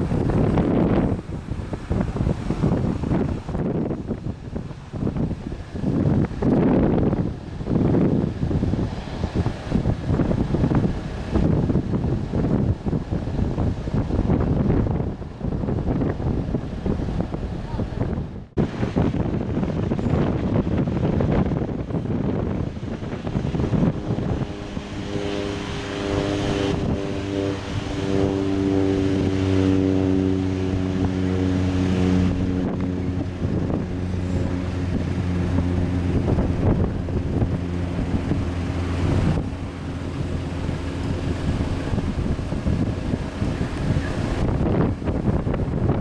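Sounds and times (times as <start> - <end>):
jet engines droning: 0.0 - 46.0
wind buffeting microphone: 0.0 - 46.0.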